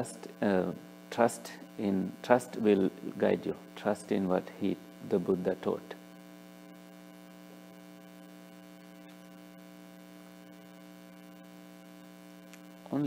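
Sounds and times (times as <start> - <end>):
mains hum: 0.0 - 13.0.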